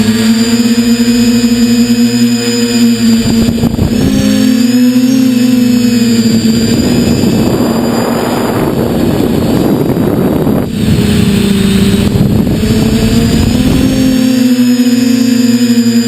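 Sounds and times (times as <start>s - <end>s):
quadcopter motors whining: 0.0s - 16.0s
wind noise: 0.0s - 16.0s.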